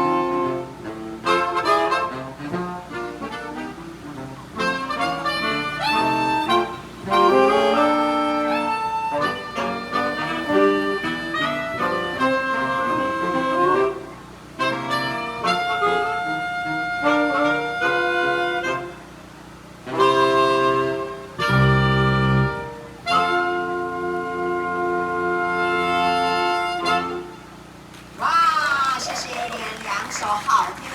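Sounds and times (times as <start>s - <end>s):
saxophone quartet playing folk melody: 0.0s - 27.9s.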